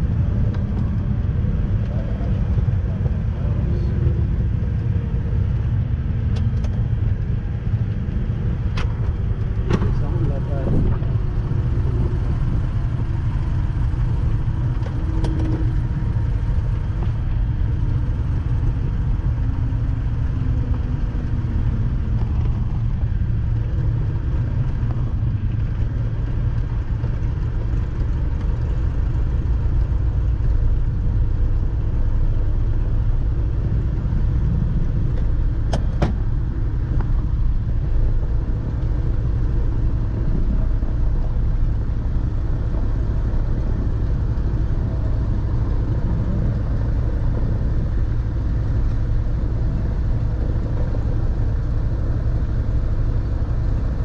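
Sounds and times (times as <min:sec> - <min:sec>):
airplane engines droning in cabin: 0:00.0 - 0:54.0.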